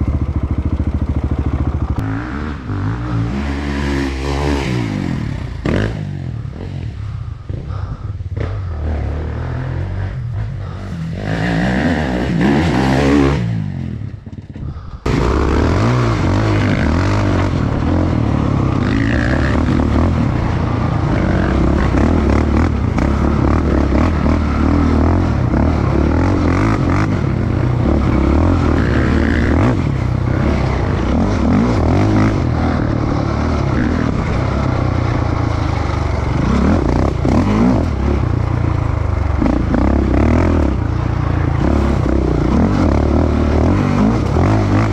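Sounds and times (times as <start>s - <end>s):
motorcycle engine revving: 0.0s - 44.9s
quad engine running hard: 0.0s - 44.9s.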